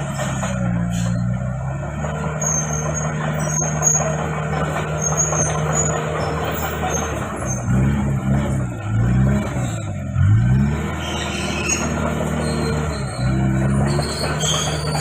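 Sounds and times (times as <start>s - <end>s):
bulldozer diesel engine drone: 0.0s - 15.0s
steel tracks squealing: 0.0s - 15.0s.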